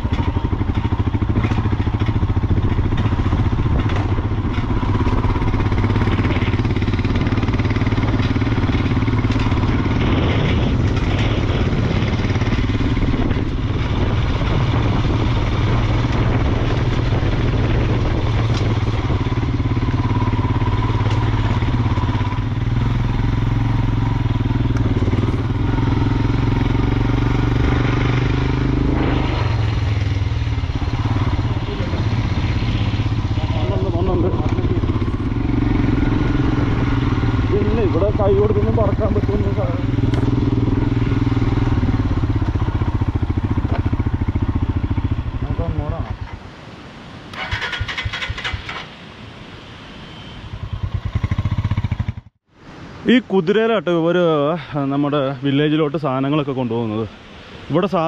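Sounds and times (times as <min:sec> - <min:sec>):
motorcycle engine running: 0:00.0 - 0:46.4, 0:50.5 - 0:52.5.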